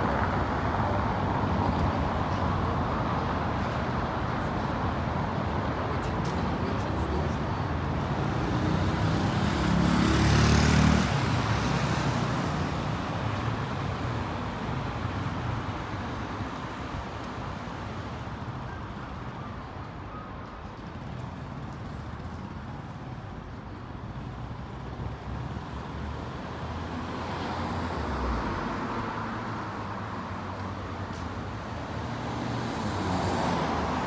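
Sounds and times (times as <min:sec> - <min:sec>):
road noise: 0:00.0 - 0:34.0.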